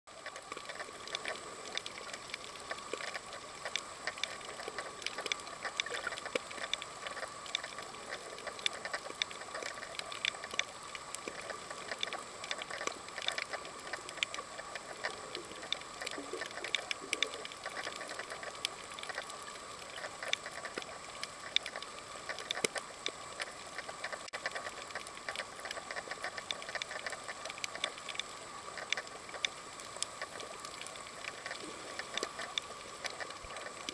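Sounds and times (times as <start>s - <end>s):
steady faint tone: 0.1s - 33.9s.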